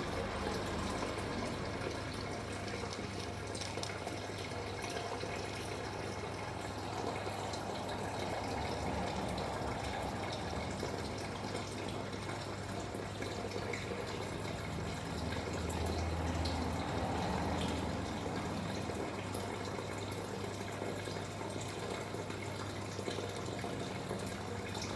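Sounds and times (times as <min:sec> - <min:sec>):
trickling running water: 0:00.0 - 0:24.9.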